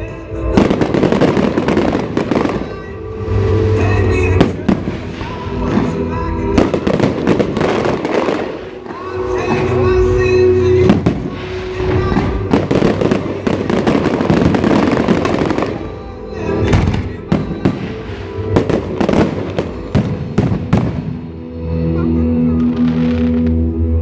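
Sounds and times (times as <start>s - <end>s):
music playing: 0.0s - 24.0s
firework crackle: 0.4s - 21.2s.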